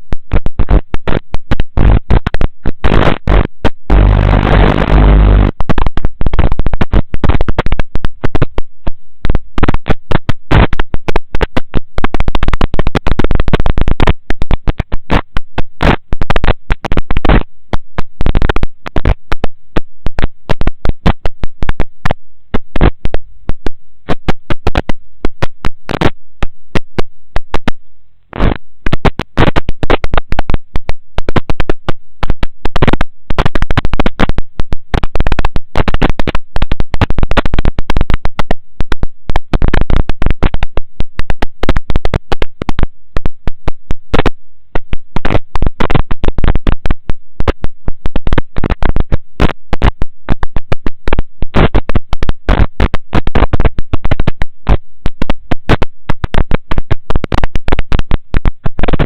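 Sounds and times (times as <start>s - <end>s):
distorted crackling and popping: 0.0s - 59.0s.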